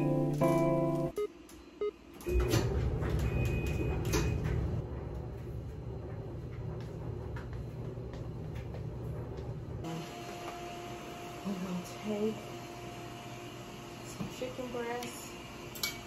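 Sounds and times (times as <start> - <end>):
washing machine running: 1.8 - 16.0.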